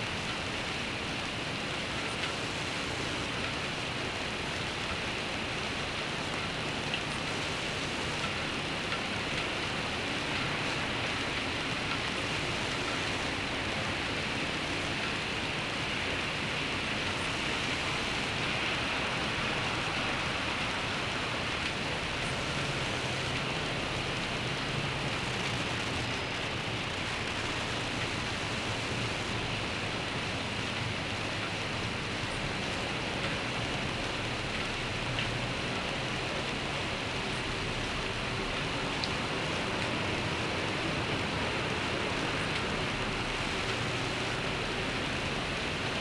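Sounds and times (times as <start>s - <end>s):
steady rain hissing: 0.0s - 46.0s.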